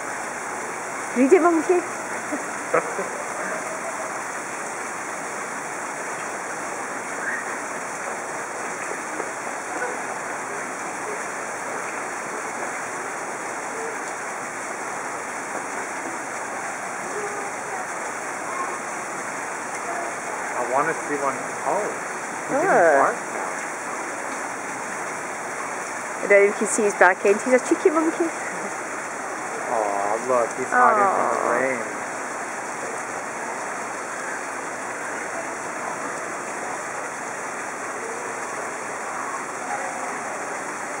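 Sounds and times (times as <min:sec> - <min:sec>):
rushing hiss of water: 0:00.0 - 0:41.0.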